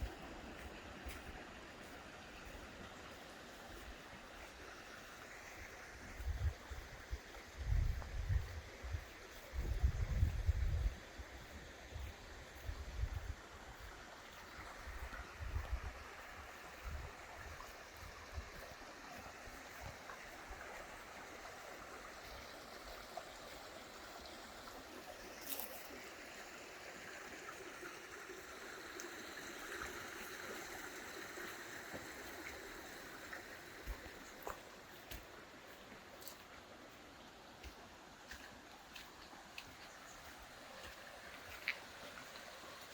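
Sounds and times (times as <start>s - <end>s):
creek water over rocks: 0.0s - 42.9s.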